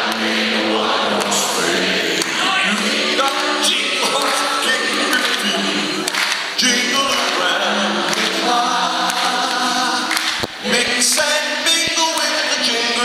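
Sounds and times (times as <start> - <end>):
voices singing in harmony: 0.0 - 13.0.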